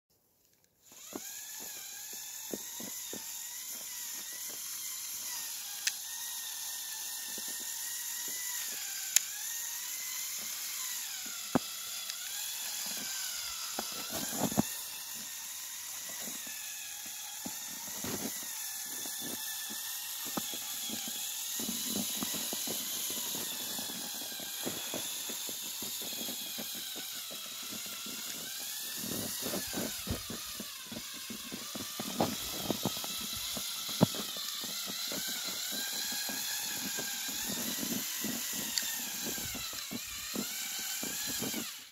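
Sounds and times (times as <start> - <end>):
electric motors whining: 0.8 - 41.9.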